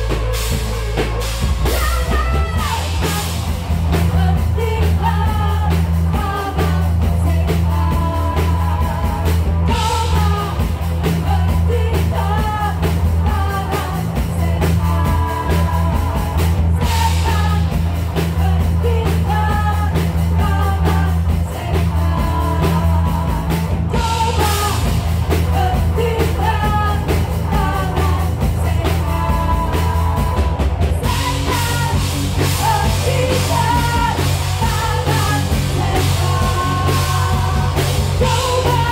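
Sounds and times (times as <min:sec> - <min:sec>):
live rock band playing: 0:00.0 - 0:38.9
woman singing: 0:00.0 - 0:38.9
man singing: 0:04.0 - 0:38.9.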